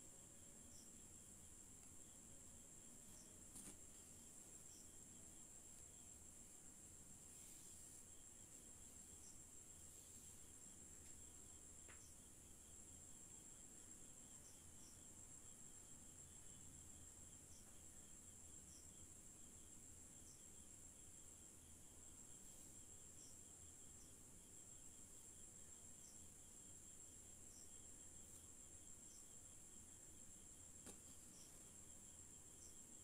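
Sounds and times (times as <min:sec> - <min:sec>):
faint high-pitched hiss: 0:00.0 - 0:33.0
faint ticking chirp: 0:00.1 - 0:03.4, 0:04.1 - 0:07.0, 0:08.2 - 0:33.0.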